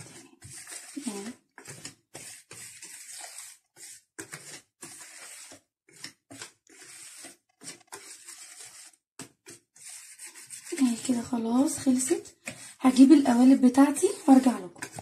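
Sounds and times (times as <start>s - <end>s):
wire whisk beating batter: 0.0s - 15.0s.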